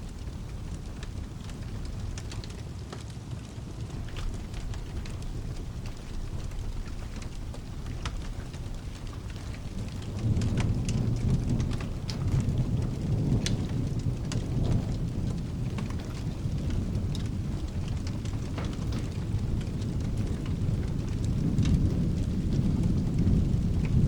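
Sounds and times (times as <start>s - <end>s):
sharp crackles: 0.0s - 24.0s
steady rain: 0.0s - 24.0s
rolling thunder: 3.9s - 24.0s.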